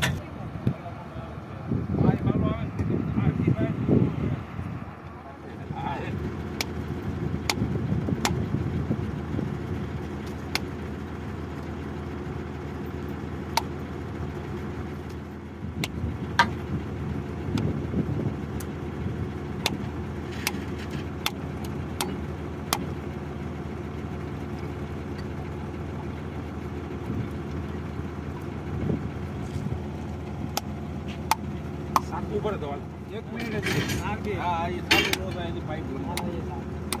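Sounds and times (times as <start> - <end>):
drilling rig engine idling: 0.0 - 37.0.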